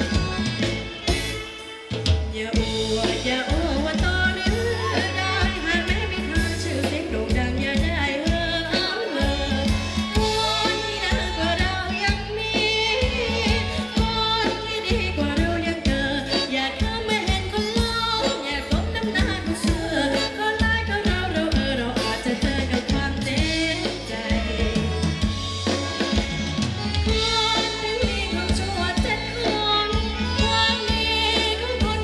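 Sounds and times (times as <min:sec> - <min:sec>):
live band dance music: 0:00.0 - 0:32.0
person singing: 0:02.4 - 0:32.0.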